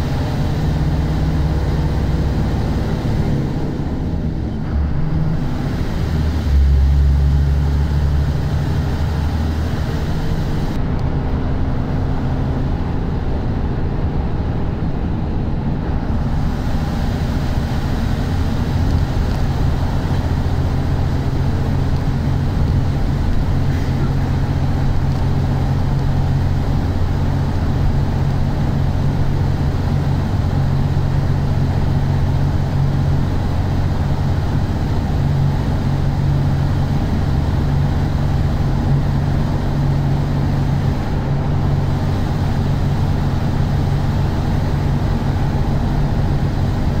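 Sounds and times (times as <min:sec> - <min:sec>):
engine and road noise inside vehicle: 0:00.0 - 0:47.0.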